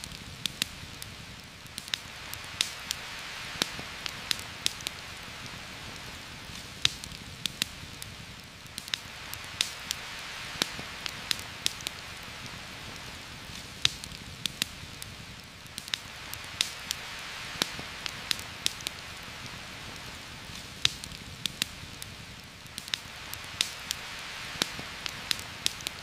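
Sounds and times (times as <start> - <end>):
campfire crackling and popping: 0.0 - 26.0
heavy rain hiss: 0.0 - 26.0.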